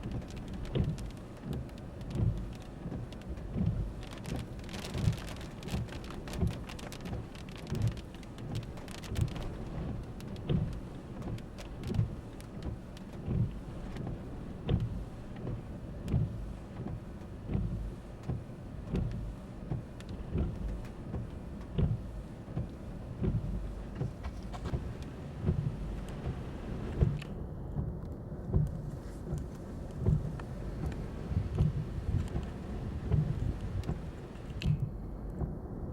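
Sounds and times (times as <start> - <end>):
rain pelting a vehicle: 0.0 - 34.7.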